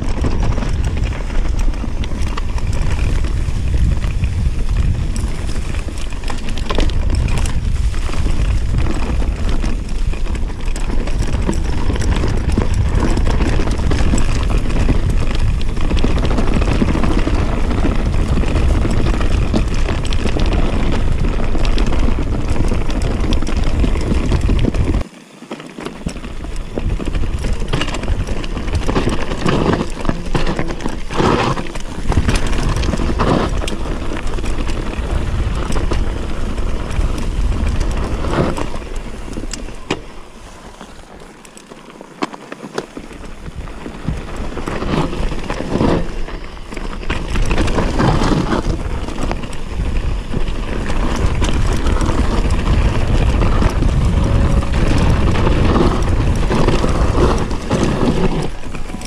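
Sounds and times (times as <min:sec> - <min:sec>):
wind rumbling on microphone: 0:00.0 - 0:25.1, 0:25.8 - 0:59.0
bike rattling over bumps: 0:00.0 - 0:59.0
tyres crunching on dirt: 0:00.0 - 0:59.0.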